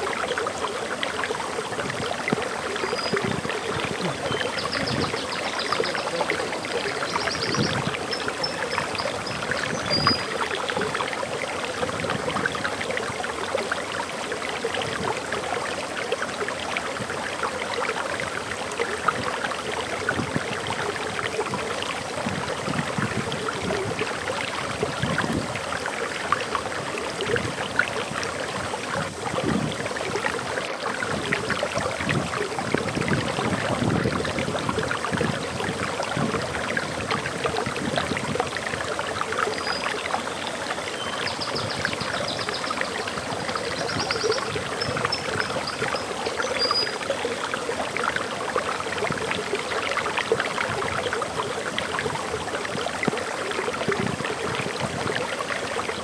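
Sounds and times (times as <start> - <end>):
water splashing over waterfall: 0.0 - 56.0.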